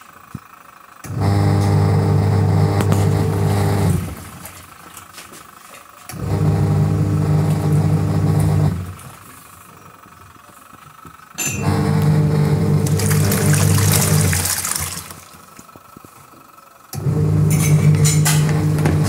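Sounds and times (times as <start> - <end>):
washing machine motor humming: 1.0 - 19.0.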